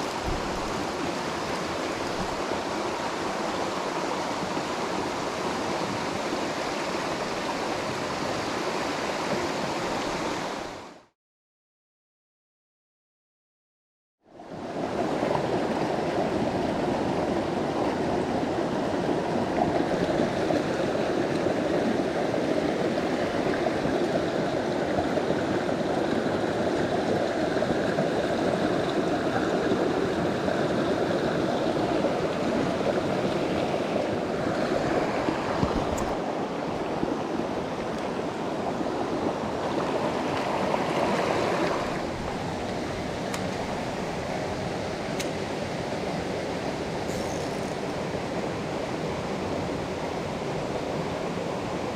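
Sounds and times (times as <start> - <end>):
stream water rushing: 0.0 - 11.1, 14.3 - 51.9.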